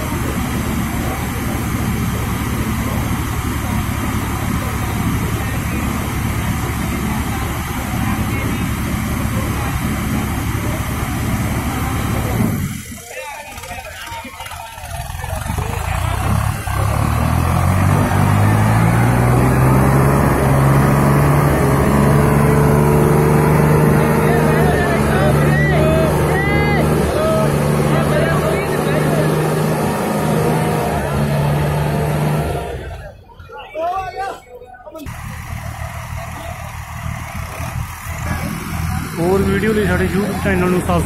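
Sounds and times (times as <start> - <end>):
tractor diesel engines under load: 0.0 - 41.0.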